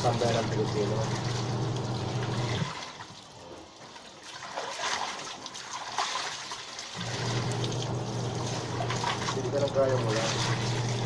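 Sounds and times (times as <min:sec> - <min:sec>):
water splashing in a basin: 0:00.0 - 0:11.0.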